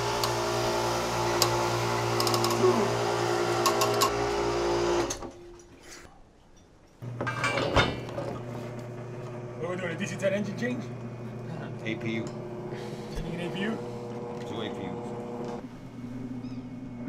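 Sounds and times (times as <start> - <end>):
steady machine hum: 0.0 - 5.2, 7.0 - 17.0.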